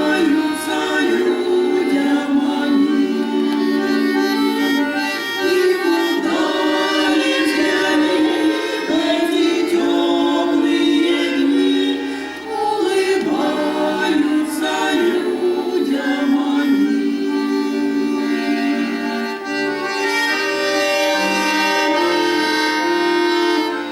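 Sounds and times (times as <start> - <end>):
accordion: 0.0 - 23.9
choir singing: 0.0 - 23.9.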